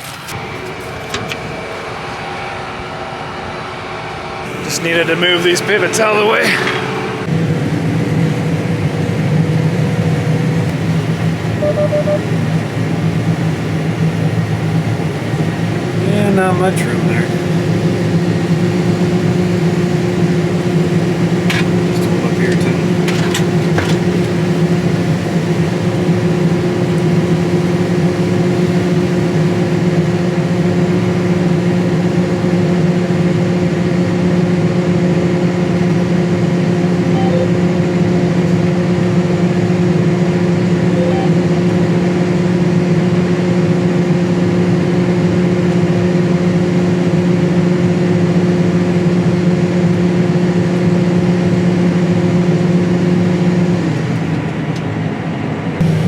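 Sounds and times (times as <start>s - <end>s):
combine engine hum: 0.0s - 56.0s.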